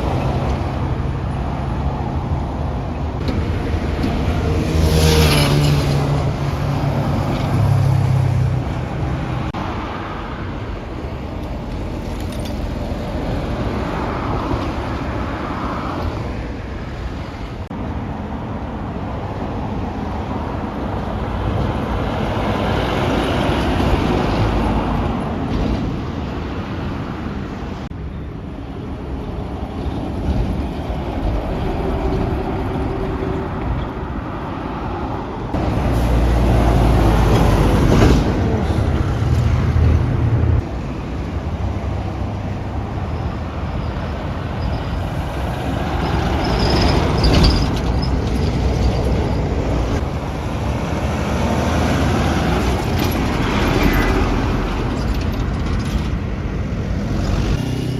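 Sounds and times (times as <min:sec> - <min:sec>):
truck engine rumble: 0:00.0 - 0:57.9
tyre and road noise: 0:00.0 - 0:57.9.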